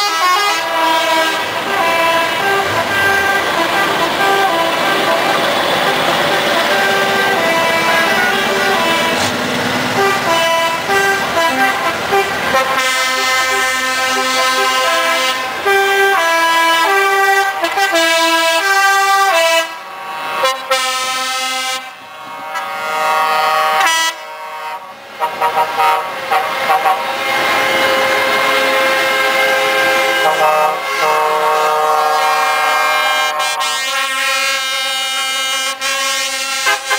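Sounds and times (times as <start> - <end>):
truck air horns playing a tune: 0.0 - 36.9.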